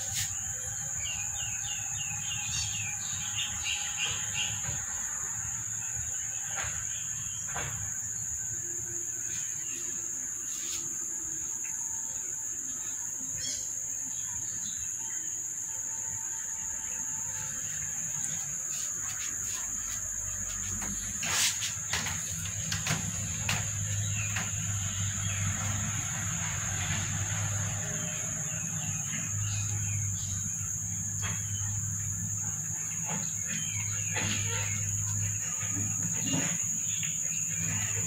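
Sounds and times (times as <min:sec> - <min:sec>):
high-pitched insect drone: 0:00.0 - 0:38.0.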